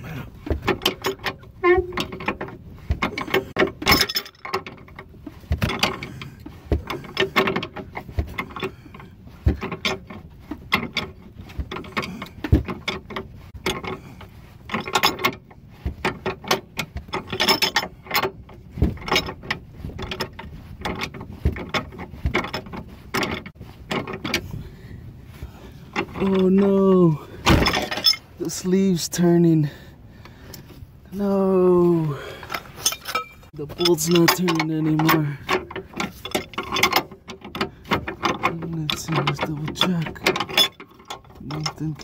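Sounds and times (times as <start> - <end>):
wrench clicking and creaking on bolt: 0.0 - 24.6, 25.9 - 26.8, 27.4 - 29.1, 32.3 - 42.0.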